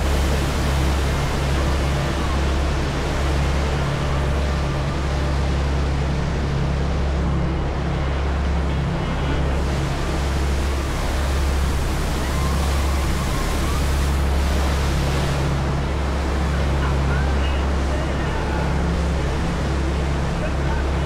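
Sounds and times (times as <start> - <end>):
ferry engine drone: 0.0 - 21.0
water rushing from wake: 0.0 - 21.0.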